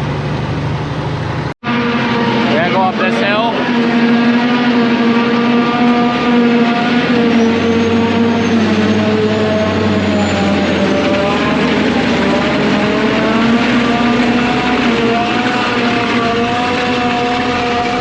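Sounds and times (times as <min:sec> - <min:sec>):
diesel truck engine pulling uphill: 0:00.0 - 0:18.0.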